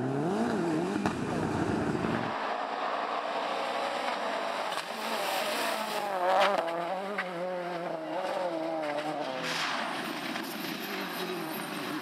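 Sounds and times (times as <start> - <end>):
rally car engine revving: 0.0 - 10.4.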